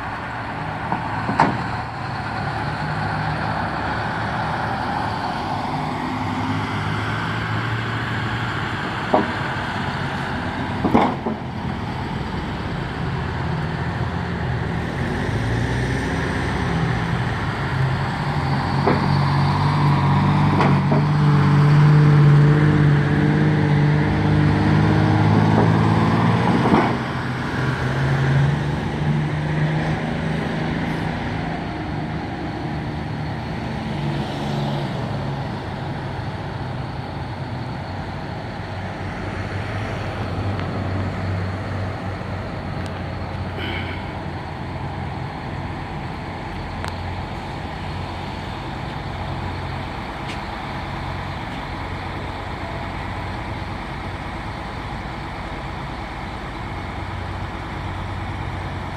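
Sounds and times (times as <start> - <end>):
bus diesel engines running: 0.0 - 58.9.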